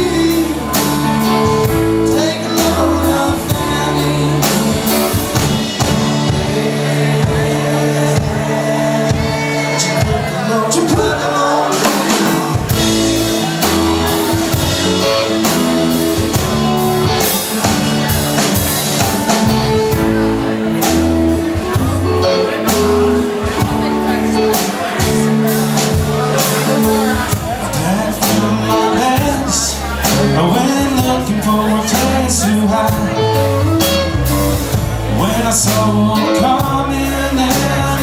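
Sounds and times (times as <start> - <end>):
bass guitar: 0.0 - 38.0
drums steady beat: 0.0 - 38.0
lead guitar: 0.0 - 38.0
organ keys: 0.0 - 38.0
person singing: 0.0 - 38.0.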